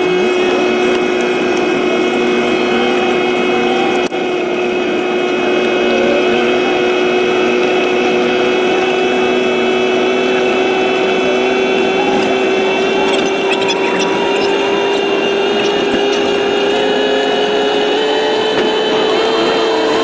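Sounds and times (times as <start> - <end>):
constant whine: 0.0 - 20.0
vehicle engine running: 0.0 - 20.0.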